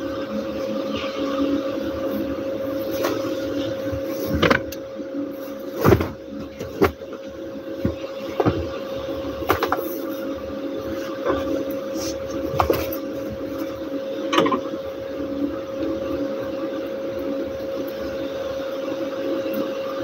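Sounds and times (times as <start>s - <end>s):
steady electric hum: 0.0s - 20.0s.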